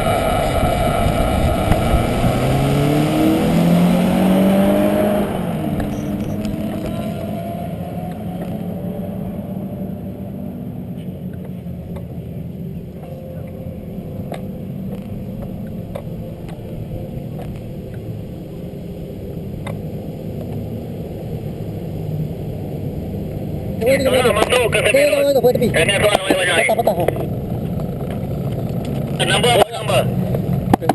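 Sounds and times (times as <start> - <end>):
motorcycle engine rumbling: 0.0 - 30.9.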